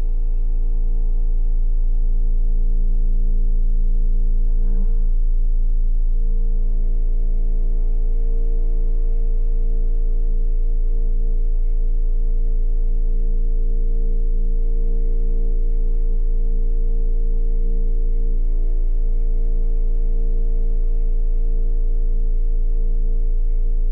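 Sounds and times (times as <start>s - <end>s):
horror film drone chord: 0.0s - 23.8s.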